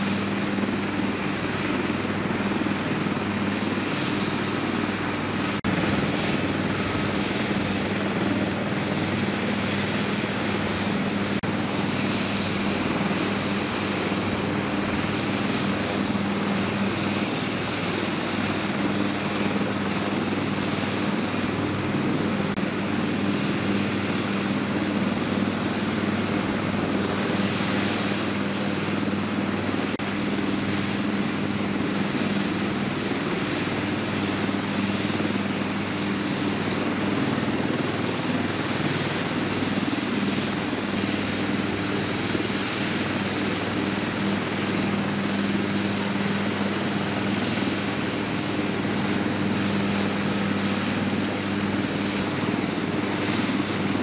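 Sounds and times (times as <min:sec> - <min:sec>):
helicopter rotors: 0:00.0 - 0:54.0
turbine engines whining: 0:00.0 - 0:54.0.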